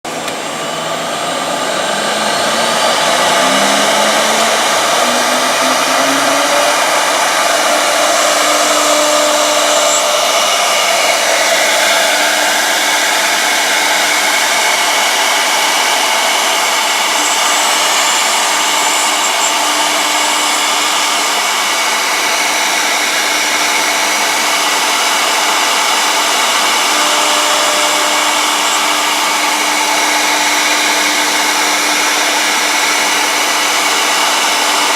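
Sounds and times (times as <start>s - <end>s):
cnc router whine: 0.0s - 34.9s.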